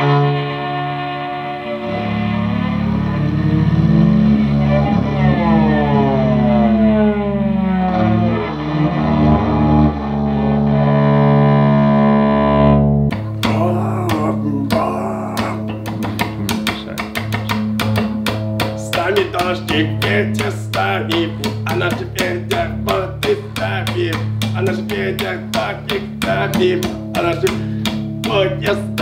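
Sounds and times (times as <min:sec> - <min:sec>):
electric cellos bowing sliding notes: 0:00.0 - 0:13.5, 0:15.4 - 0:29.0
electric cello strumming and plucking: 0:00.0 - 0:29.0.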